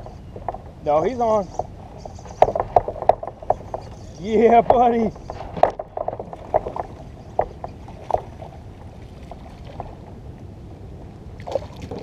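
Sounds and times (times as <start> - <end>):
water splashes and knocks at kayak: 0.0 - 10.2, 11.4 - 12.0.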